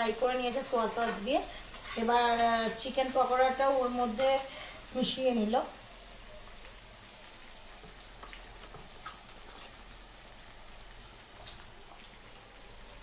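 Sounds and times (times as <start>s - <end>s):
faint sizzle of frying in wok: 0.0s - 13.0s.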